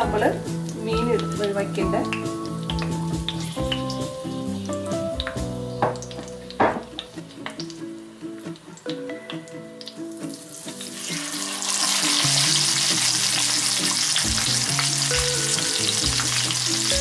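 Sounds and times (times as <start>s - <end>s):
fish sizzling in hot oil: 0.0s - 9.0s, 9.7s - 17.0s
soft background music: 0.0s - 17.0s.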